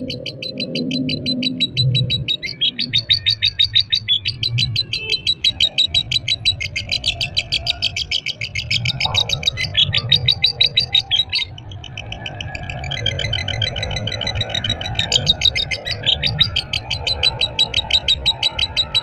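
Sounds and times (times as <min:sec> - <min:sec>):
lovebird chattering high chirps: 0:00.0 - 0:19.0.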